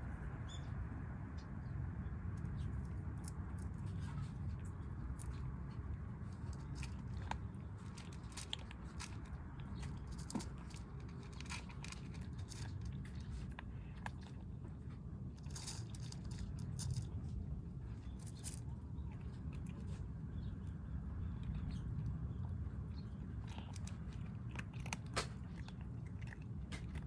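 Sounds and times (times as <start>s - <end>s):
kittens crunching dry food: 2.4s - 27.0s.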